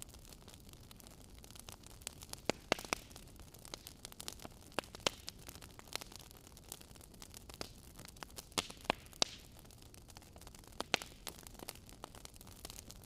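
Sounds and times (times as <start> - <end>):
soft fire hiss: 0.0 - 13.0
wood fire popping and snapping: 0.0 - 13.0.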